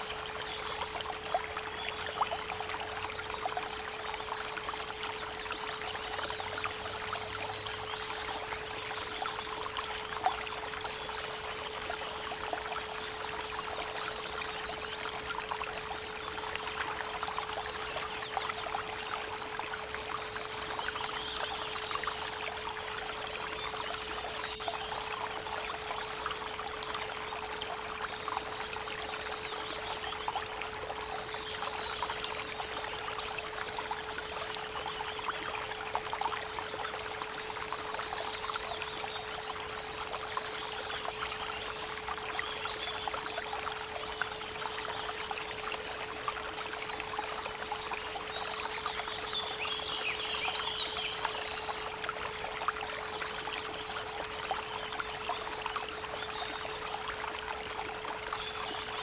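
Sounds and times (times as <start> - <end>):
birds singing: 0.0 - 56.9, 57.9 - 59.0
babbling creek: 0.0 - 59.0.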